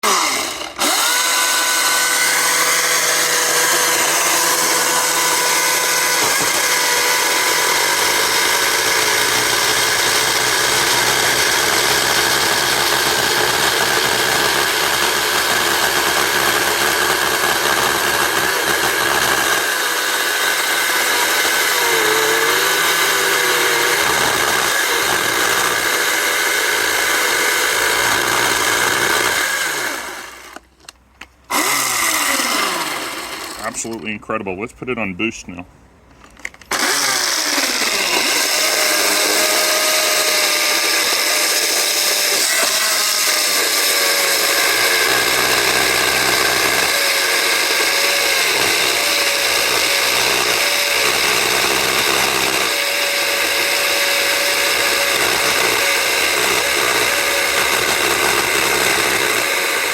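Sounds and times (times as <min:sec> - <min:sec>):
electric chainsaw whining: 0:00.0 - 0:30.7, 0:31.5 - 0:34.0, 0:36.7 - 0:59.9.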